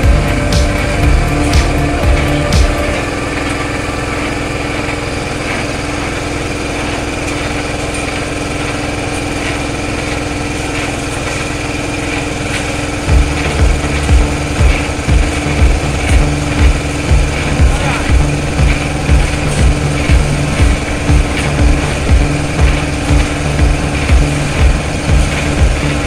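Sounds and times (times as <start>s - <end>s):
concrete mixer engine droning: 0.0s - 26.0s.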